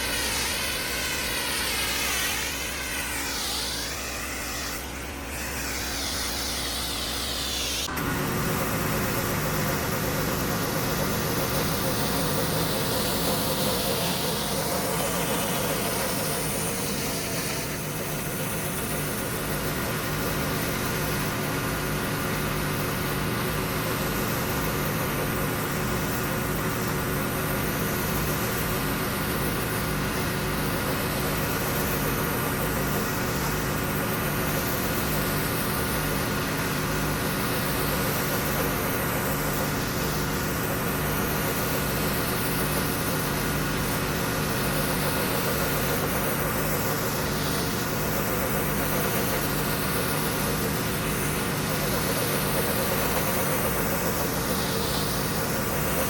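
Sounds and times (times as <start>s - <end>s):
high-pressure spray on concrete: 0.0s - 56.0s
pressure washer engine drone: 0.0s - 56.0s.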